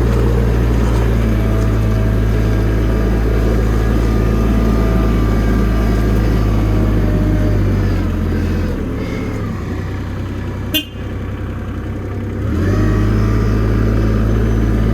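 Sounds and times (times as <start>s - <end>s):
forklift engine running: 0.0s - 14.9s.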